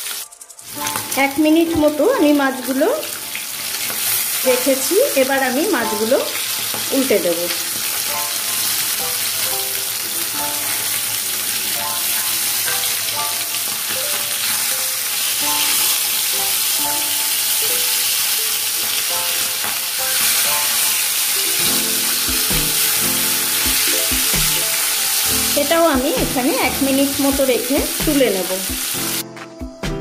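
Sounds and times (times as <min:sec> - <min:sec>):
fish sizzling in oil: 0:00.0 - 0:29.2.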